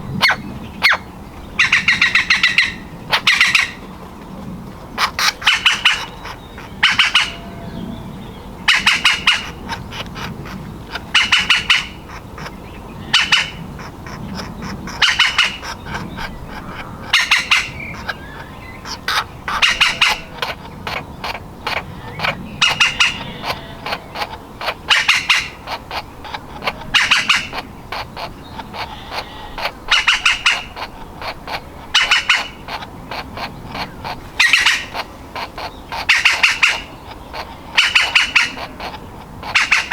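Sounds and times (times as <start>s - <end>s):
woodpecker nestling chattering calls: 0.2s - 3.8s, 5.0s - 7.6s, 8.5s - 39.9s.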